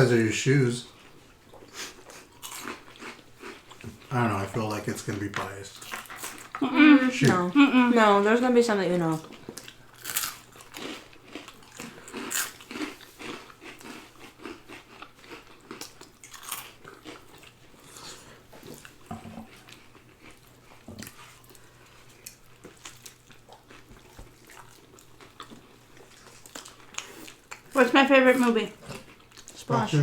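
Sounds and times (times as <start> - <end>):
people chewing and crunching food: 0.0 - 30.0.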